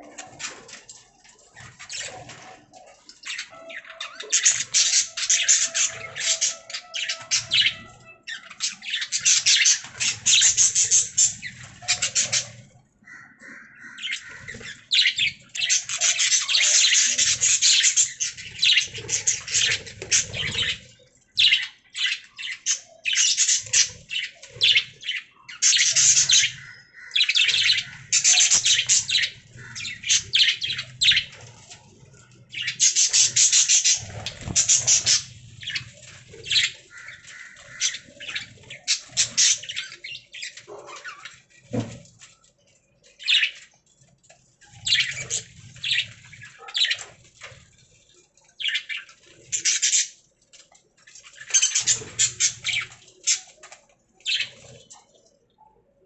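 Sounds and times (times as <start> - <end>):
budgerigars chattering and chirping: 0.0 - 42.0, 43.1 - 43.6, 44.7 - 47.2, 48.5 - 50.2, 51.2 - 53.6, 54.2 - 55.0.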